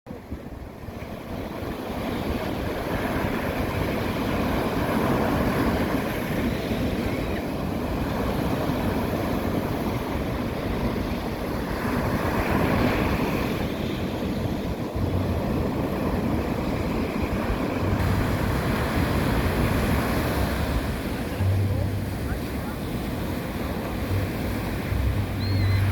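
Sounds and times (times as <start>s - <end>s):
surf breaking on beach: 0.1s - 25.9s
wind rumble on microphone: 0.1s - 25.9s.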